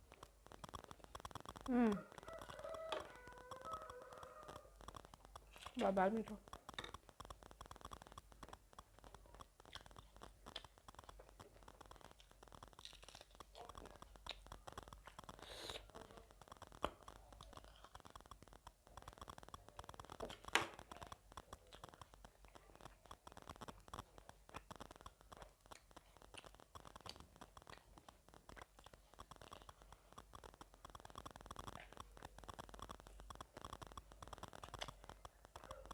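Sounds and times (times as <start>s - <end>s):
soft chewing and mouth sounds: 0.0s - 35.9s.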